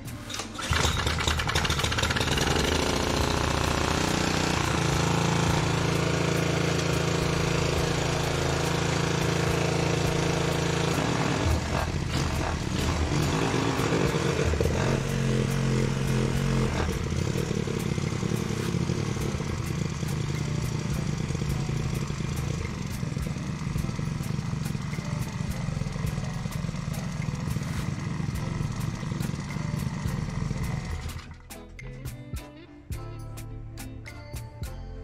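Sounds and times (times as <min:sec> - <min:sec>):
small engine running: 0:00.3 - 0:31.5.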